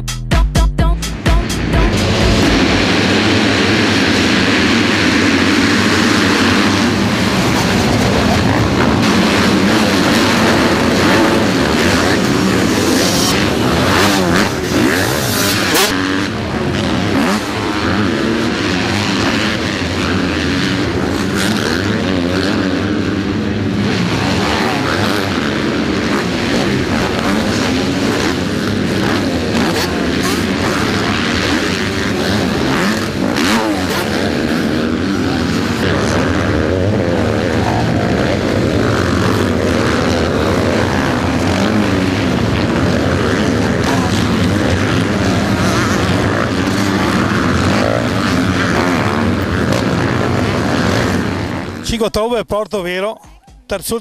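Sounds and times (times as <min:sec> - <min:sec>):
motocross engines revving: 0:01.1 - 0:52.2.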